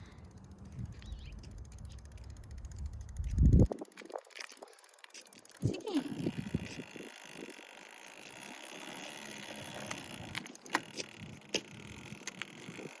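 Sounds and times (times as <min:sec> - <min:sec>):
toy motorbike rolling rattle: 0:00.0 - 0:13.0.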